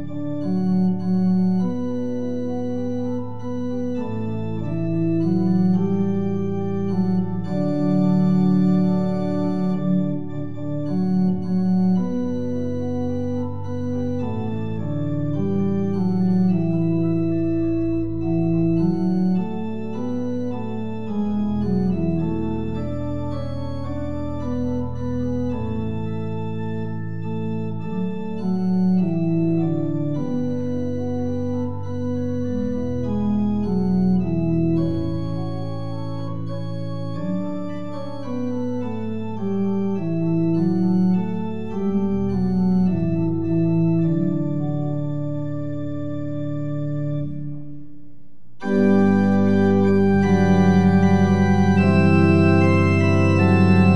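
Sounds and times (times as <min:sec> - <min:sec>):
deep organ bass notes: 0:00.0 - 0:53.9
organ playing held chords: 0:00.0 - 0:53.9.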